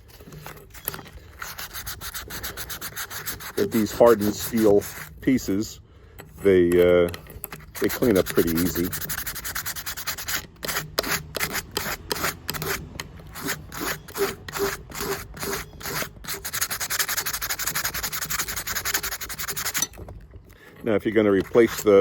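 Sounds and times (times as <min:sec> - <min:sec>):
scrubbing steel blade by hand: 0:00.1 - 0:20.1, 0:20.8 - 0:22.0.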